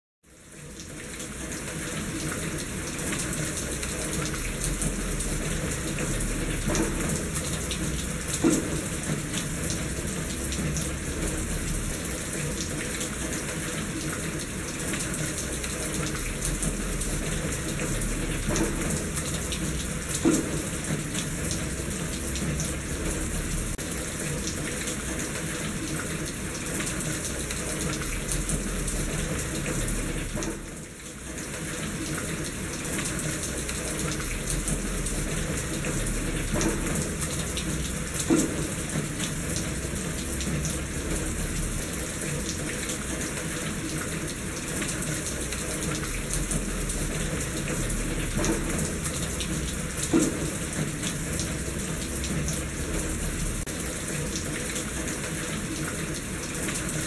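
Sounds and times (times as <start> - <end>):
steady rain hiss: 0.3 - 57.0.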